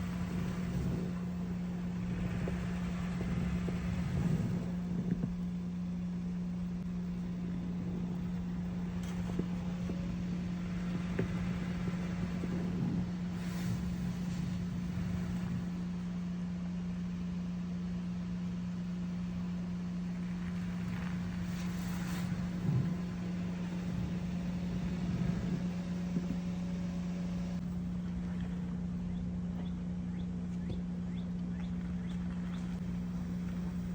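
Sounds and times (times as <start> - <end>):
car engine hum: 0.0 - 16.2, 18.4 - 33.9.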